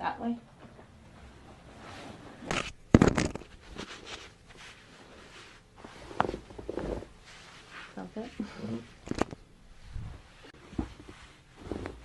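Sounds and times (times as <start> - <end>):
rustling on padded table: 1.1 - 12.0.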